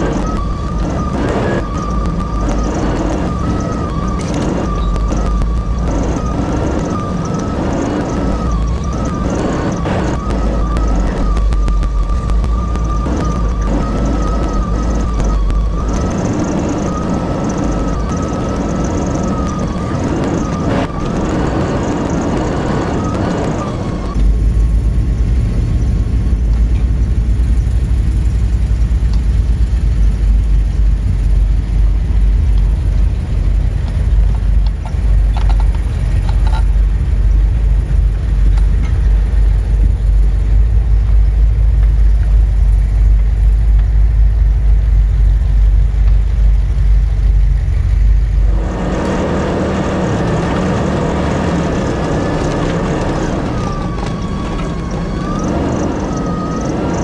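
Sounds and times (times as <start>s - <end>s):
engine deep rumble: 0.0s - 57.0s
light vehicle noise: 0.0s - 57.0s.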